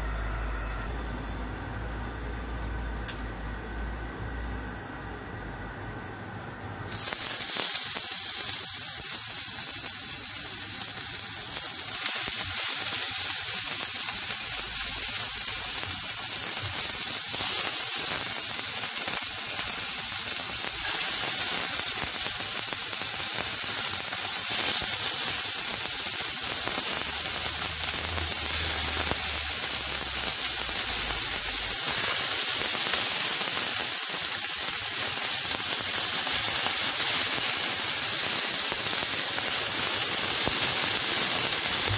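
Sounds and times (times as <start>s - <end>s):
meat sizzling in oil: 6.9s - 41.9s.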